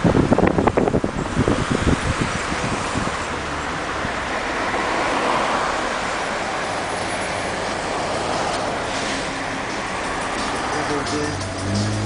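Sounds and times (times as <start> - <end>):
passing cars: 0.0 - 12.0.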